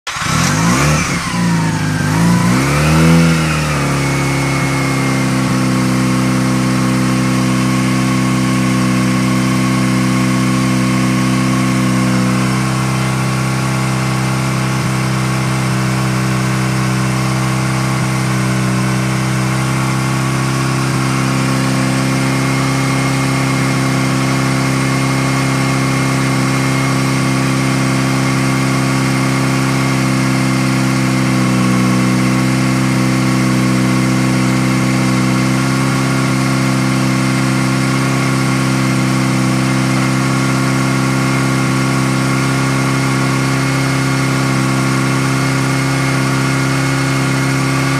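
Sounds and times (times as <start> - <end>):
rotary engine idling: 0.1 - 47.9.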